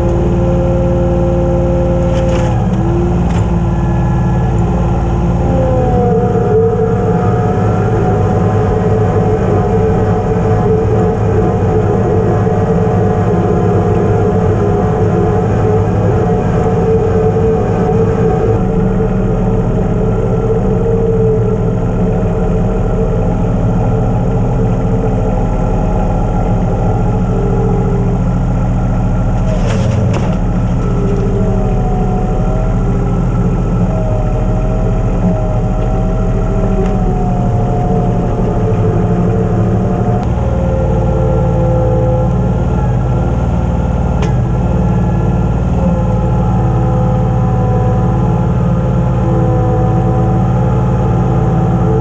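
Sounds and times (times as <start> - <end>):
tractor engine running: 0.0 - 52.0
whine shifting in pitch: 0.0 - 52.0.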